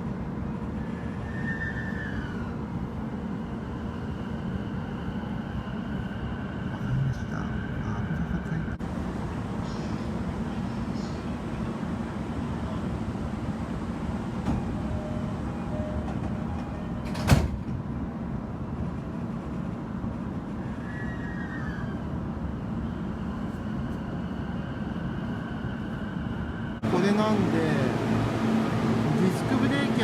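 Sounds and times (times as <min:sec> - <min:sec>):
train running noise: 0:00.0 - 0:30.0.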